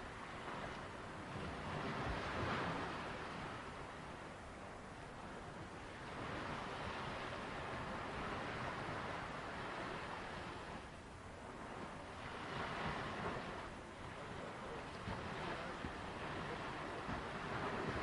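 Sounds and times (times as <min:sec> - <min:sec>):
sea waves washing onto beach: 0:00.0 - 0:18.0.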